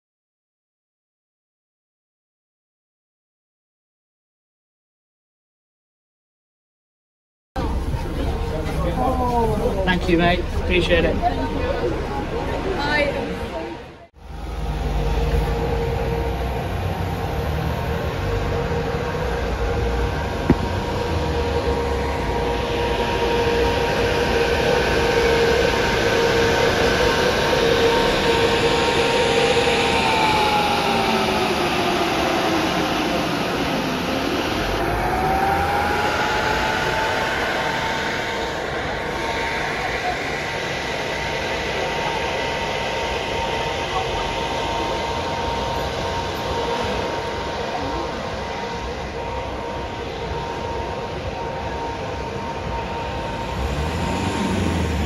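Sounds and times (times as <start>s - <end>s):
bus engine whine and rumble: 7.6s - 55.0s.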